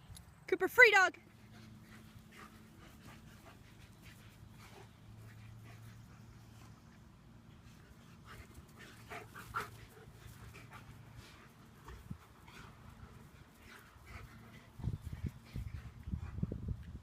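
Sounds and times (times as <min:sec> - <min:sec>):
dog panting softly: 0:01.3 - 0:16.9.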